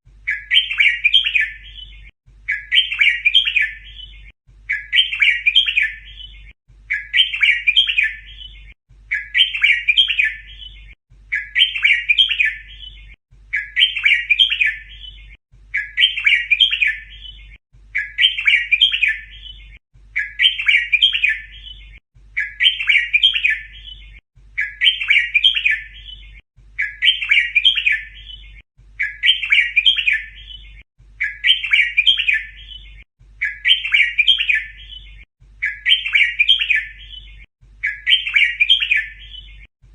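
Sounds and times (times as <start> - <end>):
bulbul chirping song: 0.2 - 39.7.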